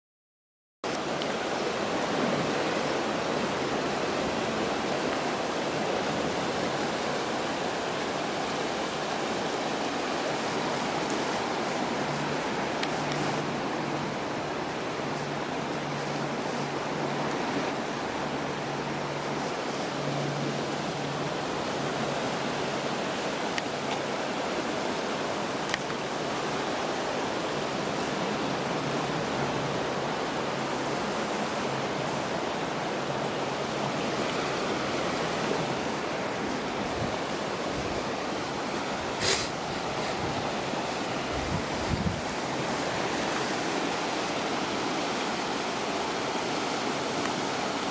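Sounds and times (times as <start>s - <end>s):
floodwater rushing: 0.9s - 47.9s.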